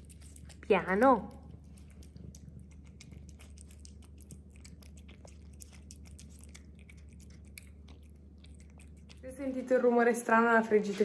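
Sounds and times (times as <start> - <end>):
cat chewing and lapping: 0.0 - 10.2
low steady hum: 0.0 - 11.0.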